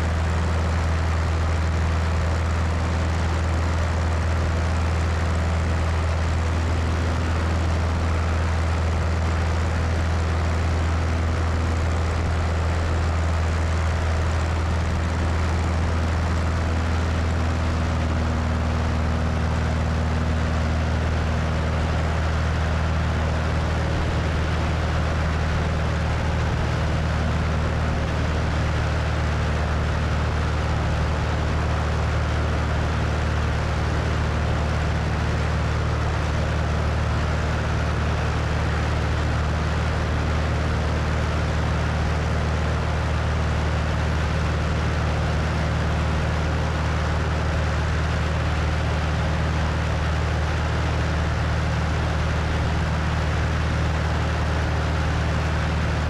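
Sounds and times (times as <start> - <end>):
propeller plane engine hum: 0.0 - 56.0.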